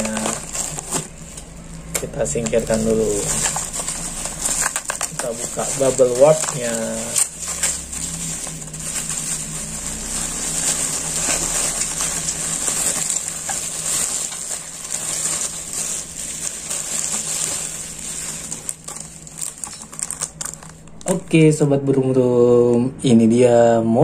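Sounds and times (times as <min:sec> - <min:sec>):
bubble wrap crinkling: 0:00.0 - 0:21.3.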